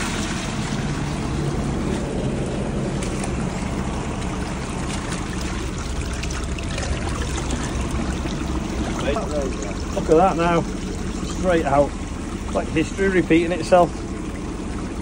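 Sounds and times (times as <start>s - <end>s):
engine running low: 0.0s - 15.0s
water running out of drain pipe: 0.0s - 15.0s.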